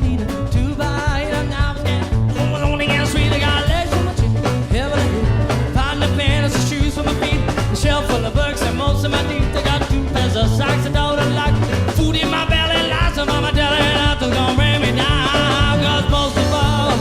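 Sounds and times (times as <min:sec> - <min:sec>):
up-tempo swing band music: 0:00.0 - 0:17.0.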